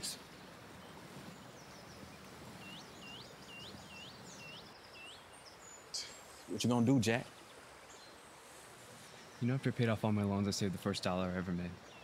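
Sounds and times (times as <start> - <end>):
bird whistling upswept notes: 0.0 - 9.8
faint high twittering: 0.0 - 12.0
quiet outdoor ambience: 0.0 - 12.0.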